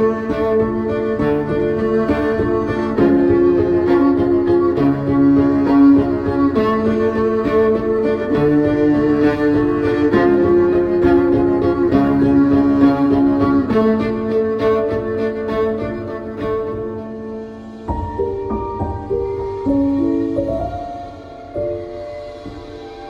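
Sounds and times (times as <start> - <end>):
slow held music chords: 0.0 - 23.0.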